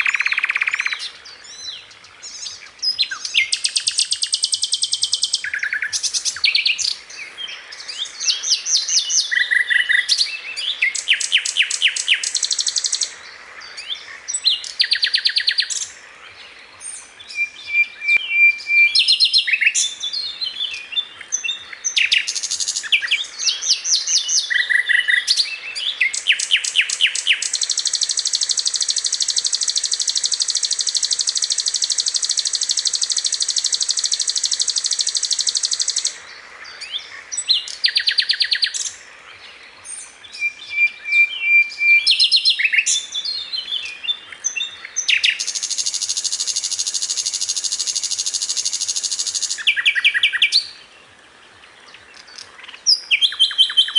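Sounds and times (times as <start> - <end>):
flycatcher singing: 0.0 - 13.1, 13.7 - 50.9, 51.9 - 53.9.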